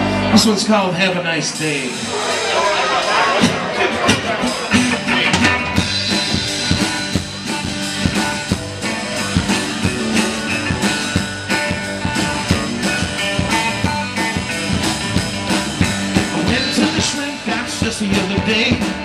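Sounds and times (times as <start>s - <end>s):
bass guitar: 0.0s - 19.0s
electric guitar: 0.0s - 19.0s
steady drum beat: 0.0s - 19.0s
acoustic guitar: 2.1s - 19.0s.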